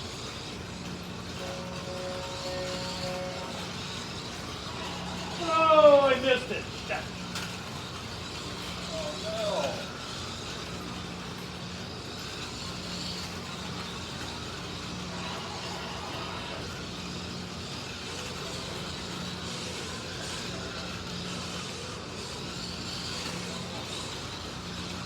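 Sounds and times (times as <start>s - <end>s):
electric motor whine: 0.0s - 25.0s
slot cars whirring on track: 0.0s - 25.0s.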